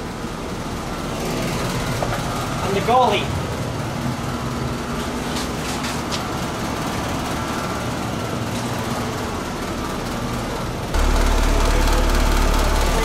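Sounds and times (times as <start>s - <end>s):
mechanical drone with low rumble: 0.0s - 13.0s.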